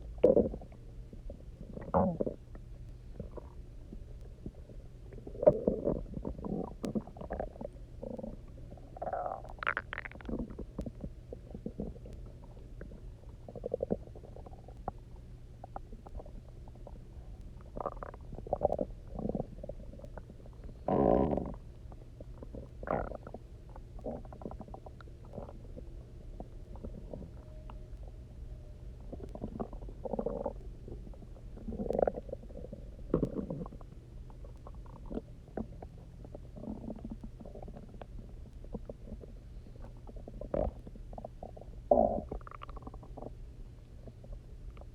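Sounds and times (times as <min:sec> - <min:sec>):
stomach gurgling and rumbling: 0:00.0 - 0:44.9.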